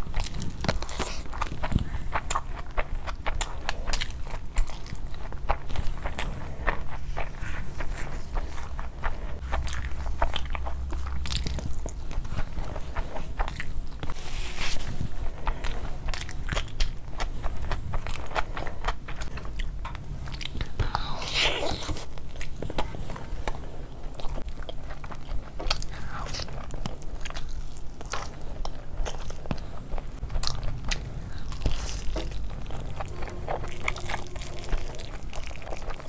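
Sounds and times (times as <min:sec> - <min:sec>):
wet chewing and lip smacking: 0:00.0 - 0:14.2, 0:14.8 - 0:36.0.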